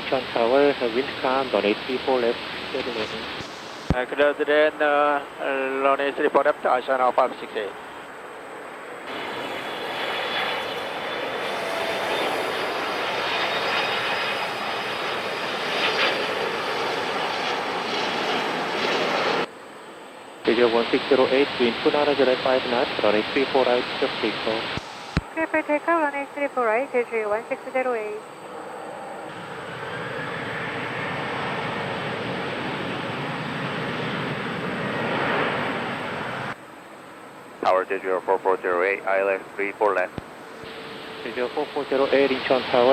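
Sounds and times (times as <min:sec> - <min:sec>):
jet engines rushing: 0:00.0 - 0:06.7, 0:07.3 - 0:19.5, 0:20.5 - 0:36.6, 0:38.6 - 0:42.9
faint high whine: 0:00.1 - 0:31.6, 0:36.0 - 0:42.9.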